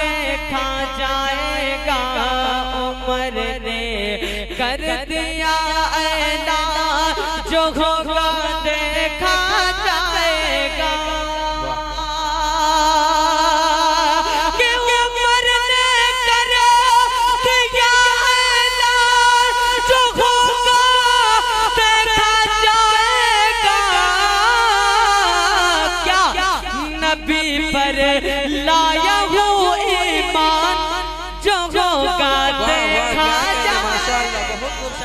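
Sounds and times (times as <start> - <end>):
man singing into a microphone: 0.0 - 35.0.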